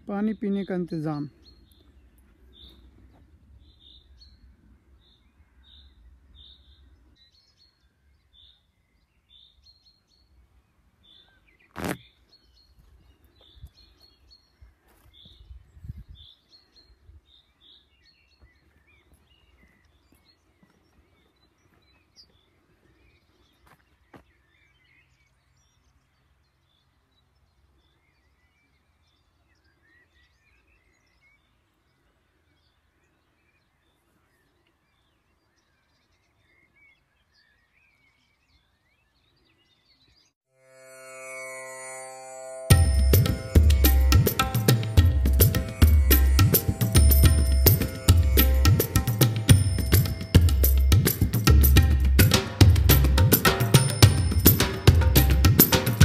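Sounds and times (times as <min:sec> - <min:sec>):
songbirds chirping: 0:00.0 - 0:40.4, 0:41.0 - 0:56.0.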